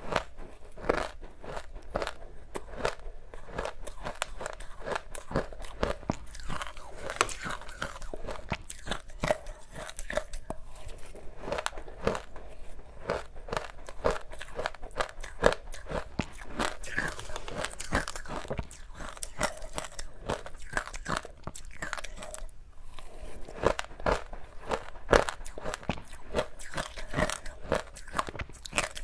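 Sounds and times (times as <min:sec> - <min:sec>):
biting and chewing ice: 0:00.0 - 0:29.0.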